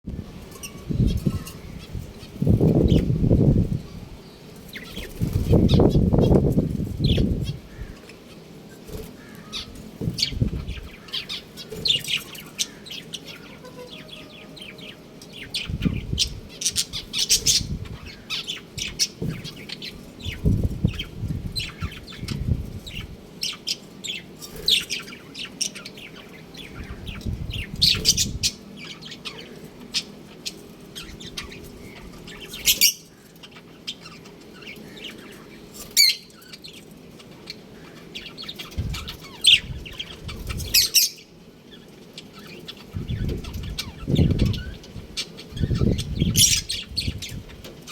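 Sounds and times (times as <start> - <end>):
budgerigars chirping: 4.8 - 47.9.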